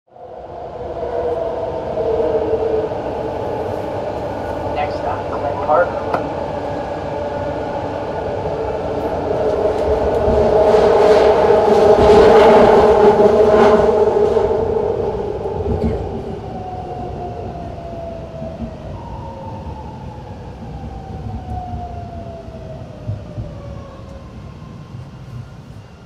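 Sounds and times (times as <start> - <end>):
rail rumble and wheel clatter: 0.1 - 26.0.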